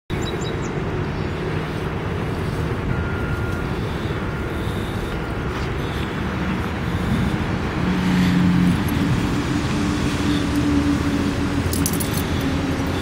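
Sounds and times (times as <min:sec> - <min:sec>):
vehicle engine humming: 0:00.1 - 0:13.0.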